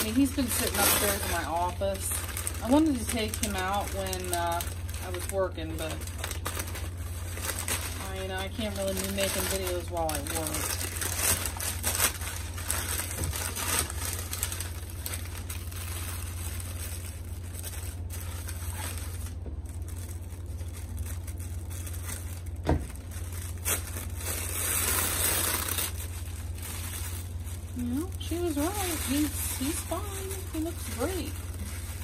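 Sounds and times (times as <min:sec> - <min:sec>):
paper rustling and crinkling: 0:00.0 - 0:32.0
steady low hum: 0:00.0 - 0:32.0.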